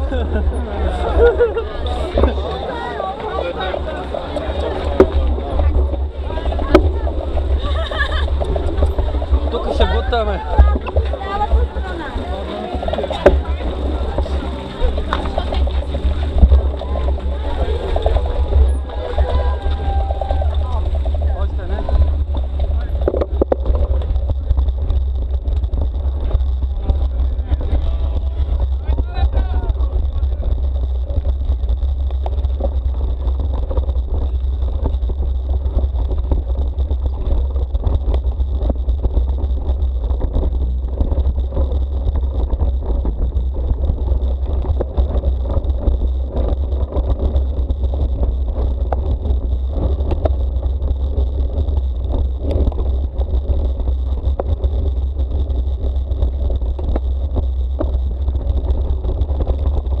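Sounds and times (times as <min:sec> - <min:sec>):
bike clicks and rattles: 0:00.0 - 1:00.0
tyre noise on road: 0:00.0 - 1:00.0
wind buffeting microphone: 0:00.0 - 1:00.0.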